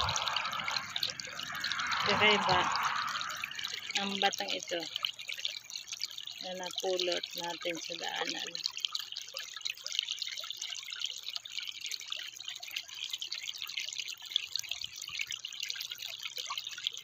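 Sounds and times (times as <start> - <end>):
water trickling over pebbles: 0.0 - 17.0.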